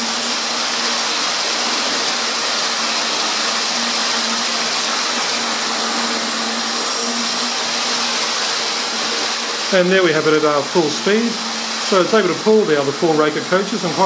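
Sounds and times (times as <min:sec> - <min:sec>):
model train whirring: 0:00.0 - 0:14.0.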